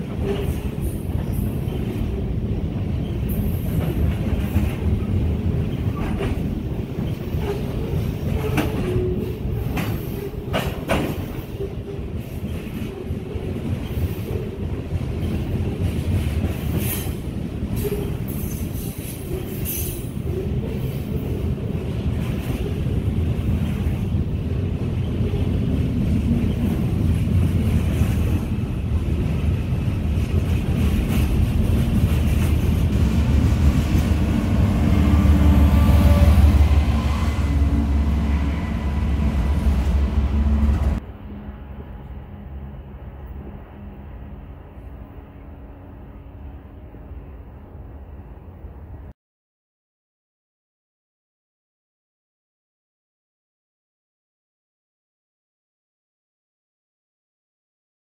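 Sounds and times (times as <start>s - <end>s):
train wheels rumbling: 0.0s - 47.4s
diesel locomotive engine rumble: 0.0s - 49.1s.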